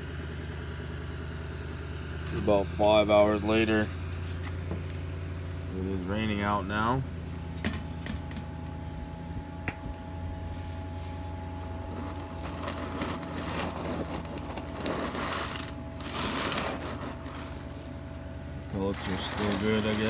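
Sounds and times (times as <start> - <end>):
faint whine: 0.0 - 20.0
low mechanical hum: 0.0 - 20.0.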